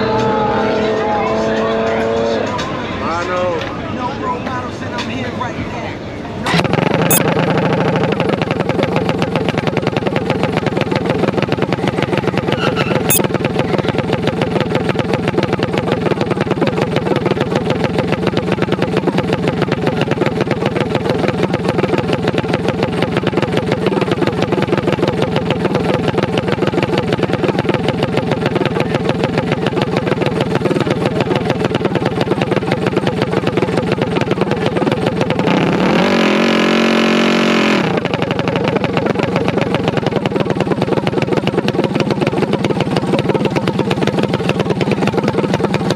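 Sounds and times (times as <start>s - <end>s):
small engine idling: 6.4s - 45.9s.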